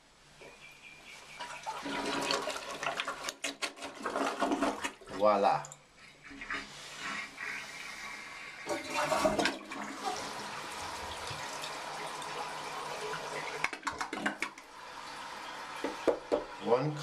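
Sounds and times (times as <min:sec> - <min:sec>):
water running and refilling: 0:01.3 - 0:17.0
toilet flushing: 0:01.4 - 0:05.6, 0:06.2 - 0:17.0.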